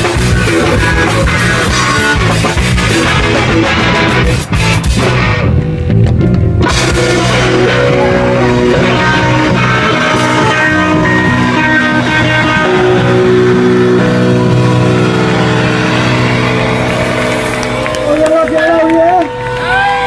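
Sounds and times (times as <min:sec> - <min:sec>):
sustained guitar notes: 0:00.0 - 0:19.6
live rock band playing: 0:00.0 - 0:20.0.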